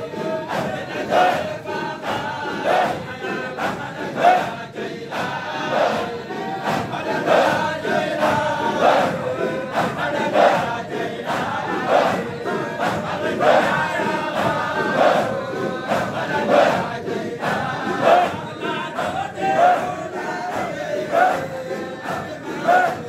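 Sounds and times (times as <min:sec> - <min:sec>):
crowd of men chanting: 0:00.0 - 0:23.0.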